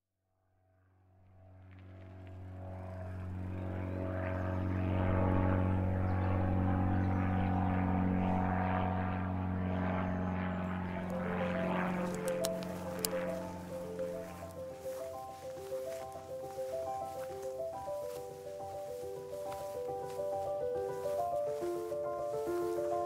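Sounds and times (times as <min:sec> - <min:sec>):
propeller airplane engine drone: 0:01.0 - 0:23.0.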